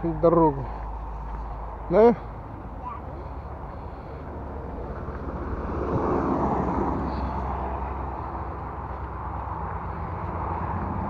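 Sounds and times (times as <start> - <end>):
car passing: 0.0 - 11.0
steady low rumble: 0.0 - 11.0.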